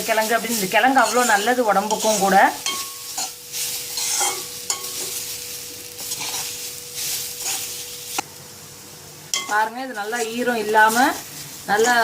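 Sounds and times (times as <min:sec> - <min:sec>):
light sizzle: 0:00.0 - 0:12.0
spatula scraping a pan: 0:00.1 - 0:08.2, 0:09.4 - 0:12.0.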